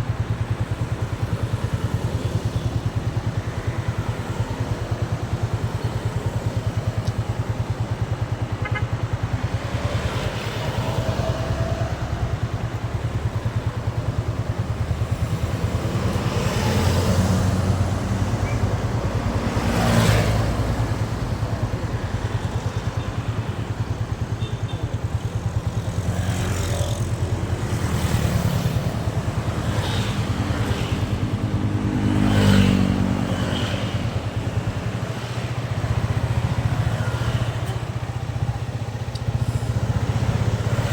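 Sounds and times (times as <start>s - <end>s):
motorcycle engine cruising: 0.0s - 40.9s
passing vehicles: 0.0s - 40.9s.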